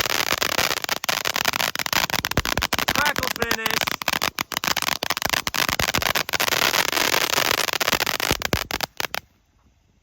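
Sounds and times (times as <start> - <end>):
firework crackling: 0.0 - 9.3.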